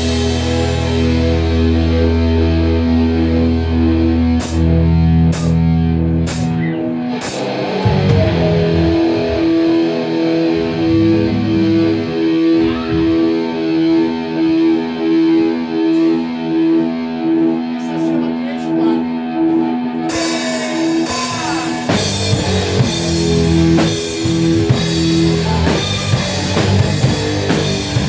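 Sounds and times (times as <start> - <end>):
rock band with electric guitar: 0.0 - 28.0.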